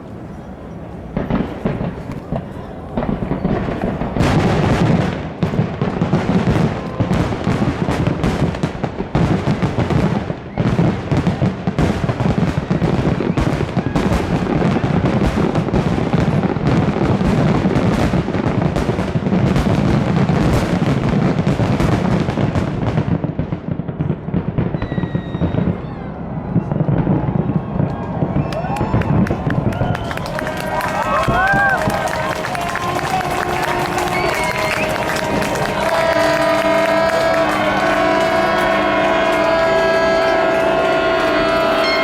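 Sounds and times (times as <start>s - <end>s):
fireworks bursting: 0.0s - 26.0s, 26.6s - 42.0s.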